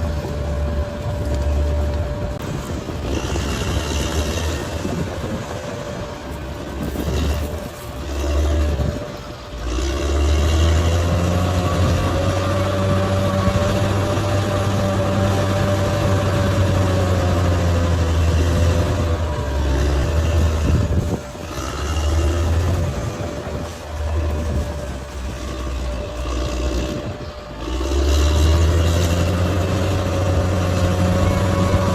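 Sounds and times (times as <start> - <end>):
bulldozer diesel engine drone: 0.0 - 31.9
thin steady whine: 0.0 - 31.9.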